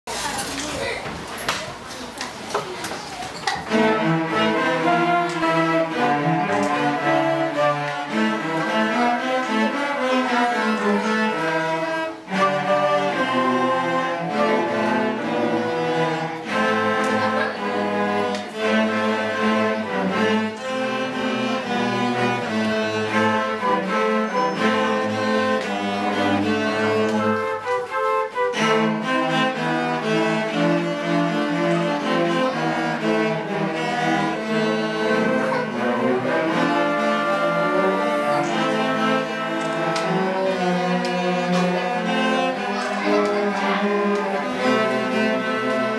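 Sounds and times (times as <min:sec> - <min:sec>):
bowed string music: 0:03.4 - 0:45.9.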